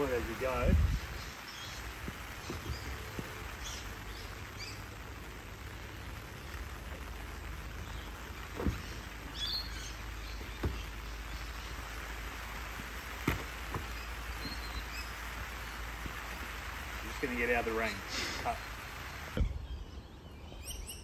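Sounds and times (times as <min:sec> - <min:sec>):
light rain falling: 0:00.0 - 0:19.4.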